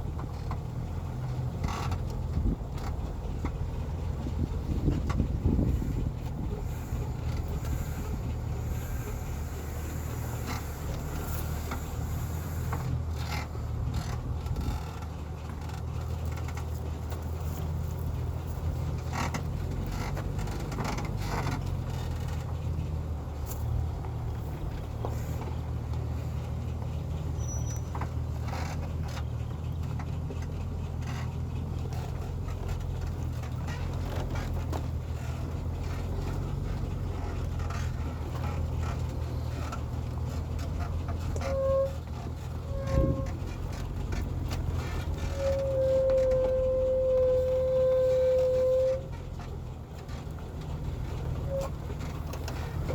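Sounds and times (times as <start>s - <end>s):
truck diesel engine rumbling: 0.0s - 52.9s.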